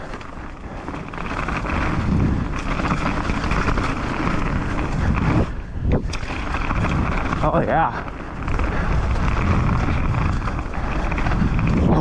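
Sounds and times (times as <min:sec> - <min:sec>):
tyres rumbling on dirt: 0:00.0 - 0:12.0
wind rushing over microphone: 0:00.0 - 0:12.0.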